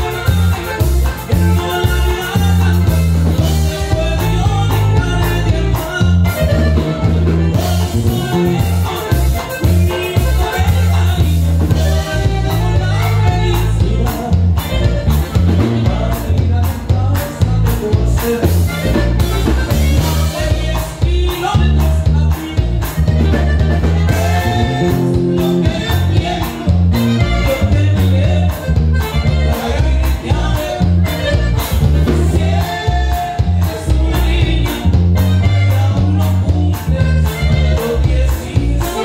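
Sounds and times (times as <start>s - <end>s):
live band dance music: 0.0s - 39.0s
person singing: 0.0s - 39.0s.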